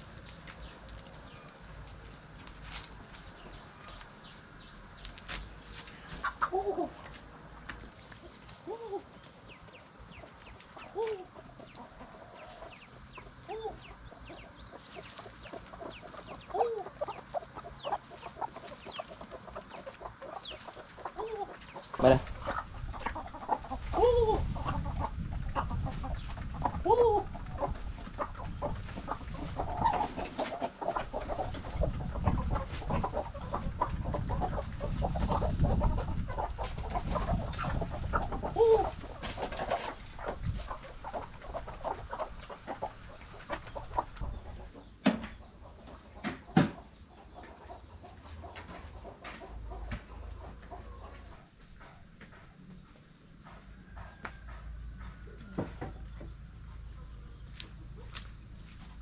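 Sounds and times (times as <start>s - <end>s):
high insect trill: 0.0s - 45.9s, 47.6s - 59.0s
hens clucking: 0.0s - 52.0s.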